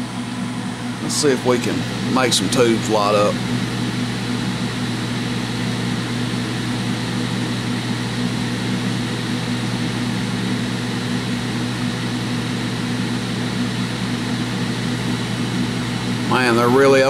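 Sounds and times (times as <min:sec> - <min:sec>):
cooling fans whooshing: 0:00.0 - 0:17.0
steady low hum: 0:00.0 - 0:17.0.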